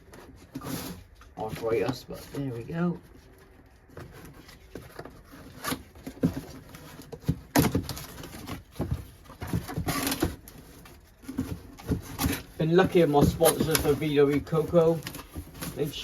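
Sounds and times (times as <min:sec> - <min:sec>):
packaging rustling: 0:00.0 - 0:16.0.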